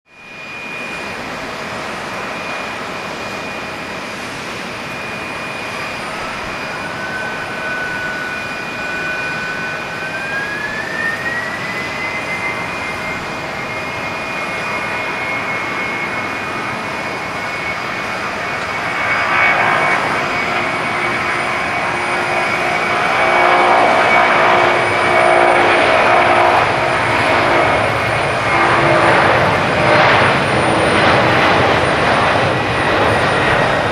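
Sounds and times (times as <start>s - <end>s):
jet engines spooling up: 0.1s - 33.9s.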